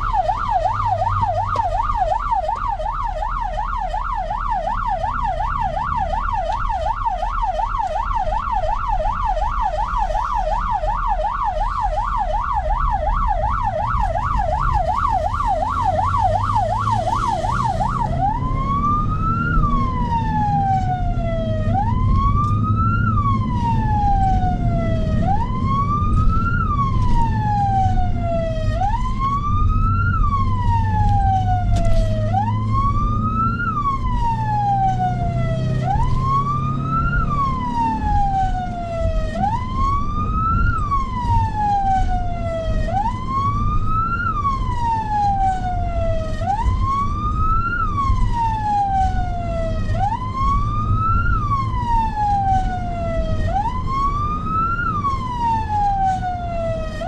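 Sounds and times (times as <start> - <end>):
emergency siren wailing: 0.0 - 57.0.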